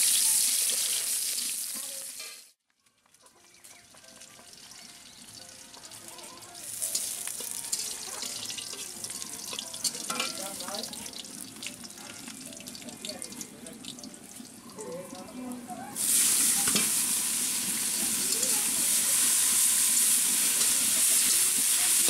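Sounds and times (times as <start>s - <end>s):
garlic sizzling in oil: 0.0s - 2.6s, 3.5s - 15.3s, 15.9s - 22.0s.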